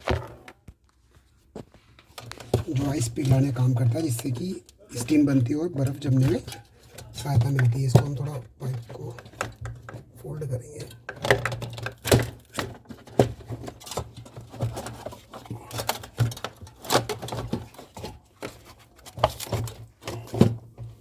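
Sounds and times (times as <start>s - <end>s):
knocks and clicks of handling parts: 0.0s - 21.0s.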